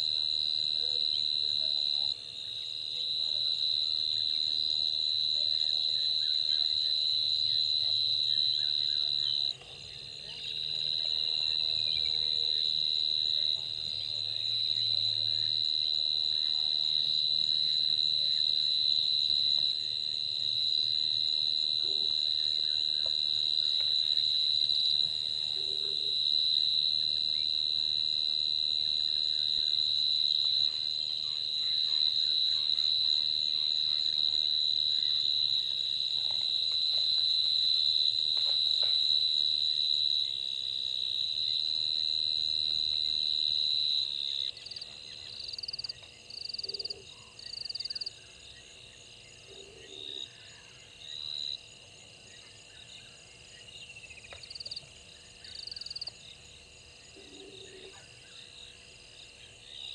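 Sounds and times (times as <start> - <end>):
shrill insect chorus: 0.0 - 59.9.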